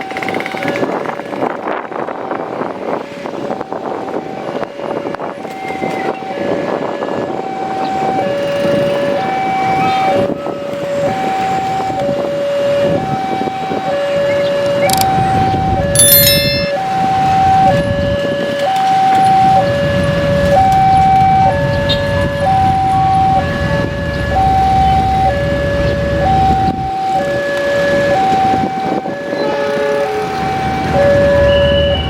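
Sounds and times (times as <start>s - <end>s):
two-tone emergency siren: 0.0s - 32.0s.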